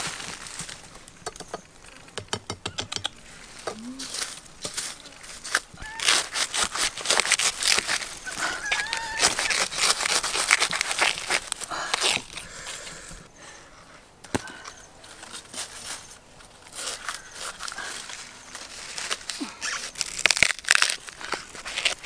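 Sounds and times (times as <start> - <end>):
dry bamboo leaves rustling: 0.0 - 2.2, 3.1 - 13.6, 14.9 - 22.0.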